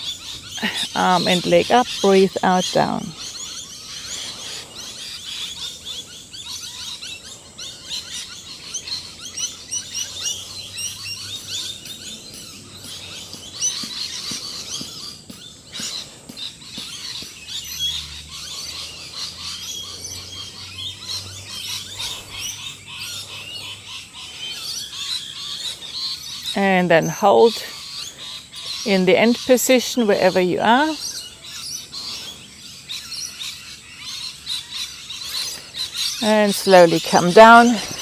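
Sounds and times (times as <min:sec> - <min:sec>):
many birds chirping: 0:00.0 - 0:38.0.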